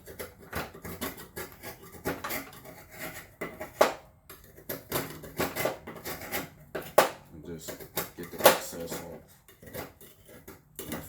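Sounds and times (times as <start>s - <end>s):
knife scraping grip tape: 0.0s - 11.0s.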